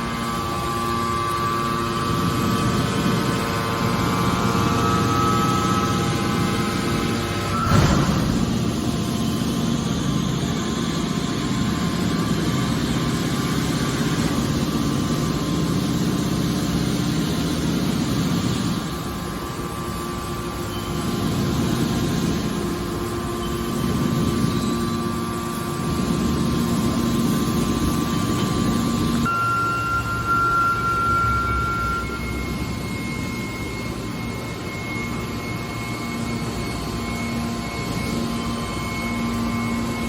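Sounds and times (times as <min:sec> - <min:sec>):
car baler machine drone: 0:00.0 - 0:40.0.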